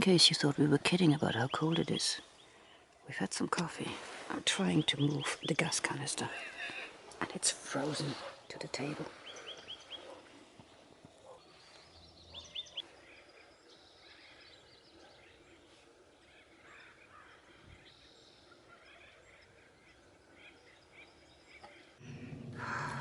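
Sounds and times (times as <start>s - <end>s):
birds calling faintly: 0.0s - 23.0s.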